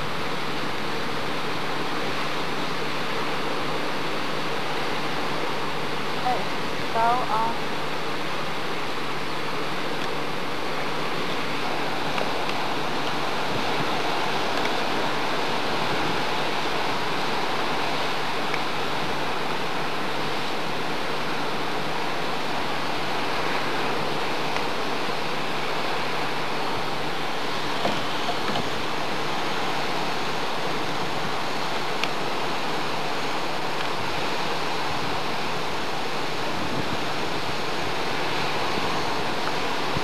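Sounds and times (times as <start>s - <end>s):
ocean surf: 0.0s - 40.0s
wind: 0.0s - 40.0s.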